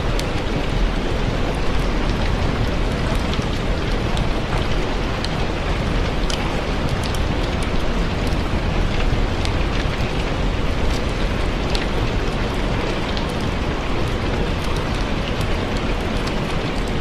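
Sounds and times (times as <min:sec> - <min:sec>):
heavy rain: 0:00.0 - 0:17.0
wood fire crackling: 0:00.0 - 0:17.0.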